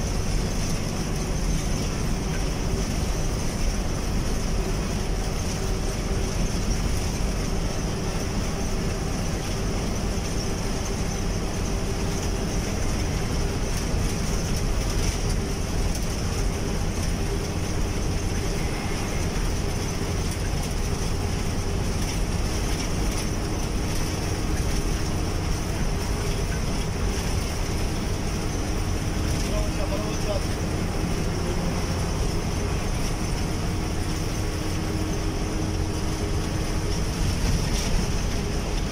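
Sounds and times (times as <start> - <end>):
bus engine drone: 0.0 - 38.9
tyre and road noise: 0.0 - 38.9.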